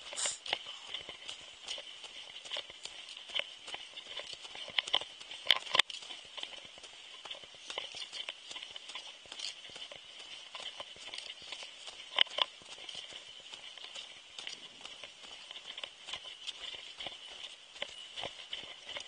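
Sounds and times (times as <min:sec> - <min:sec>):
footsteps crunching in snow: 0:00.0 - 0:19.0.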